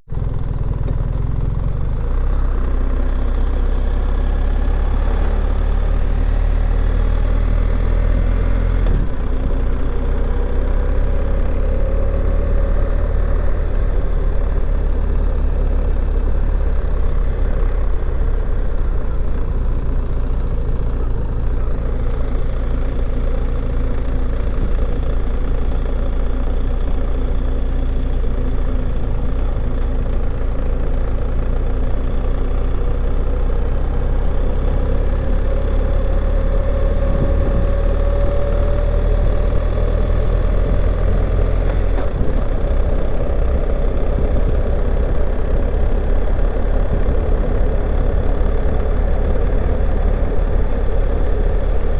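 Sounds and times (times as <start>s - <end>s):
vehicle engine and road rumble: 0.1s - 51.9s.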